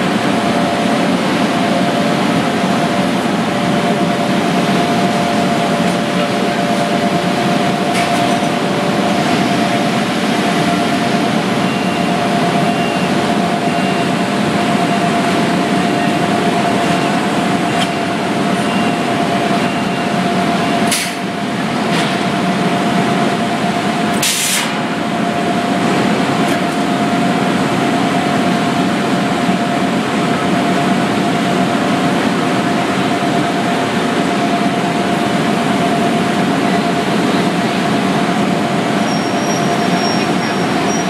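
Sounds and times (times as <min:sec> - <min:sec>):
constant machine whine: 0:00.0 - 0:41.0
machinery drone: 0:00.0 - 0:41.0.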